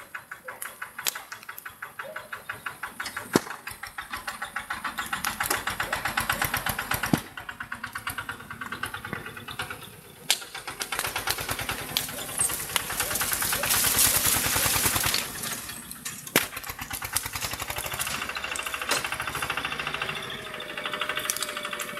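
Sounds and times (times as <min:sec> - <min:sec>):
sharp cracks: 0:00.0 - 0:19.9
tractor engine chugging: 0:00.0 - 0:21.9.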